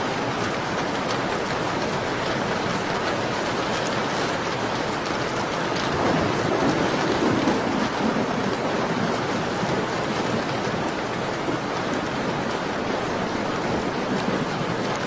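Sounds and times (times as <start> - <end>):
rain pattering on a window: 0.0 - 15.0.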